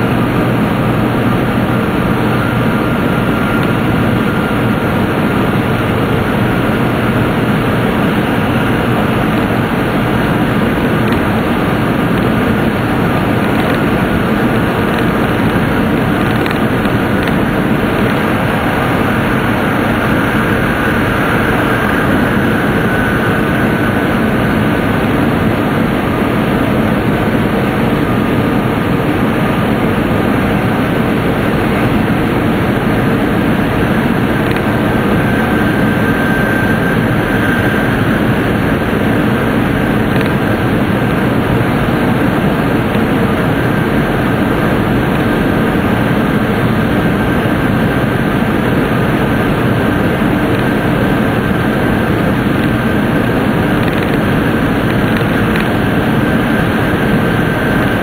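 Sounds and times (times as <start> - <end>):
train running noise in tunnel: 0.0 - 58.0.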